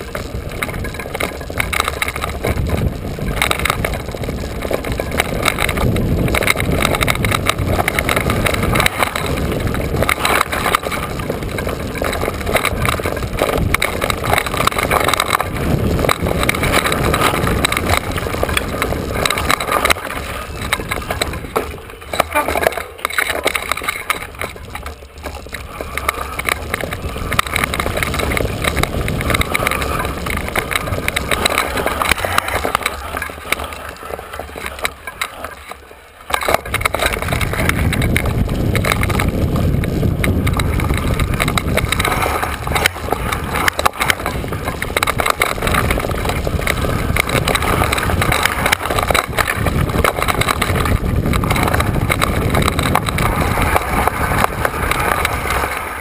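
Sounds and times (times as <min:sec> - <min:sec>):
bike rattling over bumps: 0:00.0 - 0:56.0
tyres crunching over dirt: 0:00.0 - 0:56.0
wind rumbling on microphone: 0:00.0 - 0:56.0.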